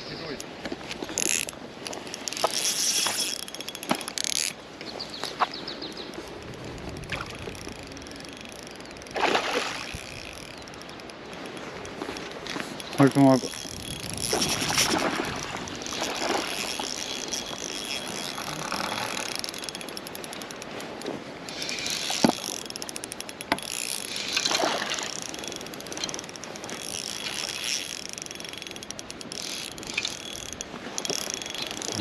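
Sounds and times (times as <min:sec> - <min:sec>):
fishing reel gears whirring: 0:00.2 - 0:32.0
reel click: 0:00.3 - 0:32.0.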